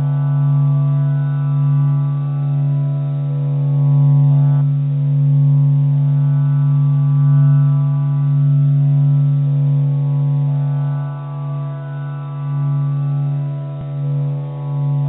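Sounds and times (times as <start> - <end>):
deep electronic drone: 0.0 - 15.0.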